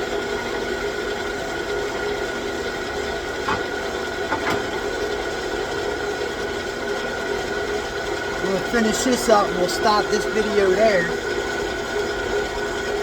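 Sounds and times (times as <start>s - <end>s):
lathe gear whine: 0.0s - 13.0s
mechanical hum: 0.0s - 13.0s.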